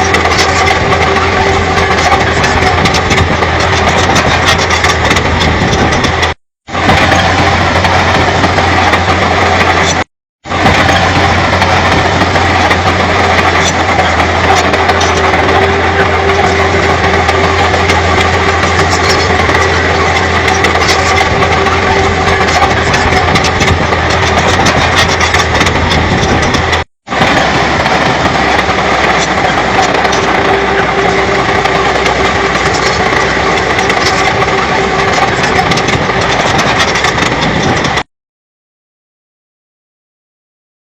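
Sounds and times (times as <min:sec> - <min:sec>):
bulldozer diesel engine running: 0:00.0 - 0:38.1.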